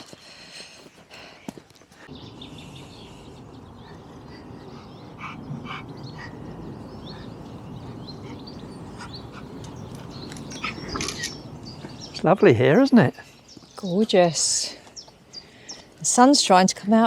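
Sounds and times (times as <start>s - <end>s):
birds chirping: 1.9s - 17.0s.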